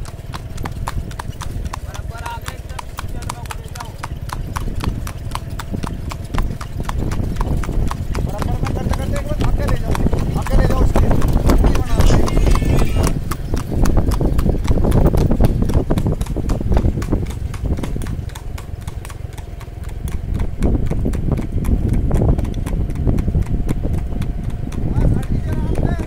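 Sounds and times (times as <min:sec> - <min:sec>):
horse hooves on asphalt: 0:00.0 - 0:26.0.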